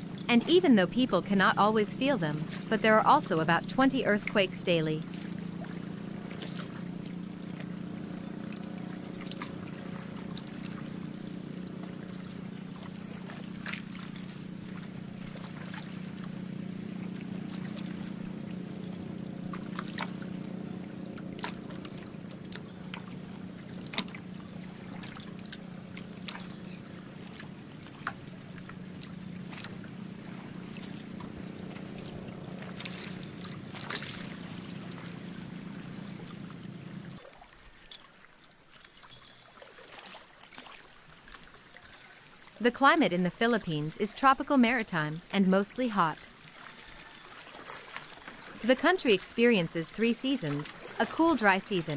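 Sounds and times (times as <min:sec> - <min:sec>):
boat engine droning: 0:00.0 - 0:39.5, 0:40.8 - 0:51.9
water slapping against hull: 0:00.0 - 0:51.9.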